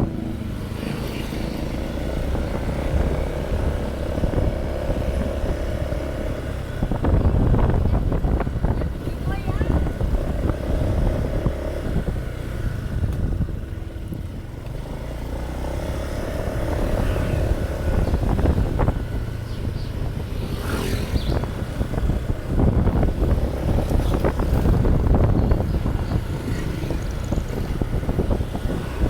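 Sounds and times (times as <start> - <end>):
motorcycle engine running: 0.0 - 29.0
wind rumbling on microphone: 0.0 - 29.0.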